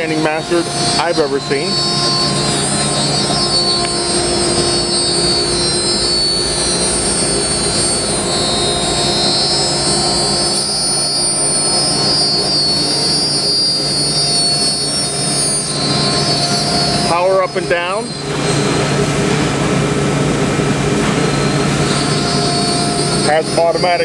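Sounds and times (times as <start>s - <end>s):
high-pitched machine whines: 0.0s - 24.0s
shop machinery drone: 0.0s - 24.0s.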